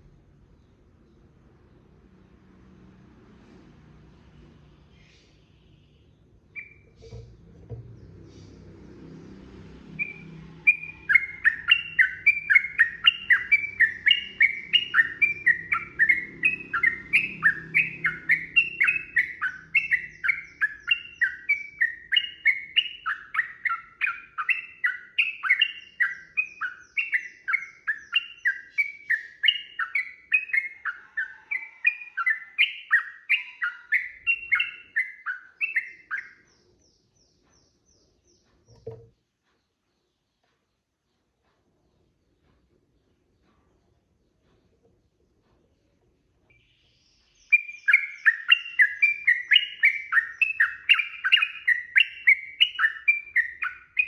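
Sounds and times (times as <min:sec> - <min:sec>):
bird chattering song: 0:04.8 - 0:09.1, 0:10.0 - 0:54.0.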